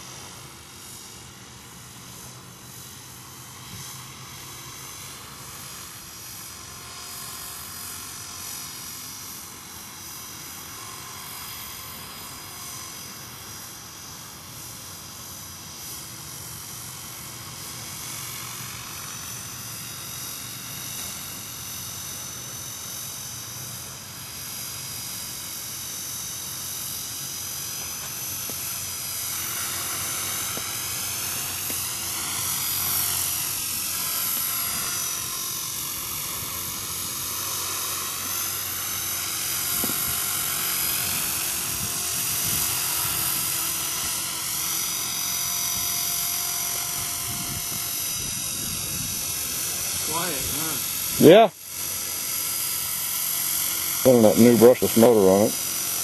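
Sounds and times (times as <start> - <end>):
rc helicopter motor whine: 0.0 - 56.0.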